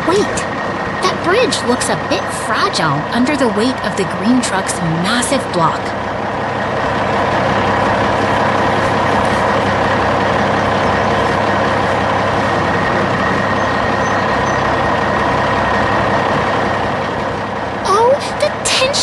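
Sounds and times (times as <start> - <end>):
heavy truck engine droning: 0.0 - 19.0.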